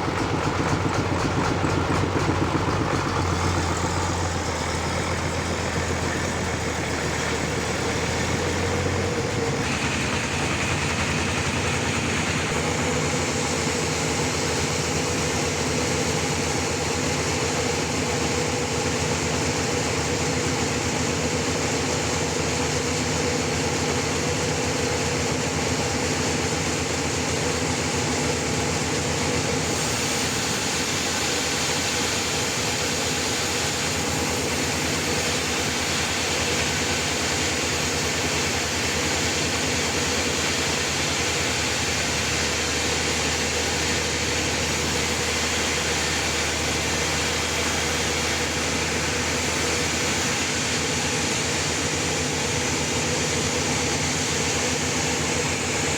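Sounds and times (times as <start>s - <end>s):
sawmill running: 0.0s - 55.9s.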